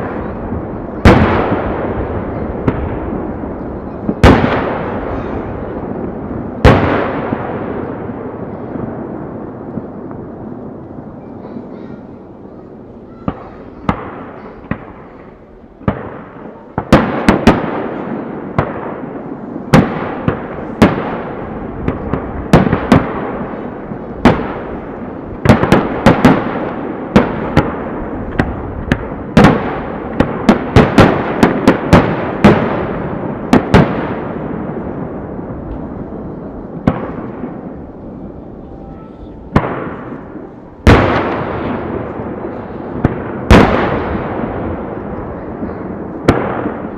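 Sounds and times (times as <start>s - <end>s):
fireworks booming with echoing rumble: 0.0s - 46.9s.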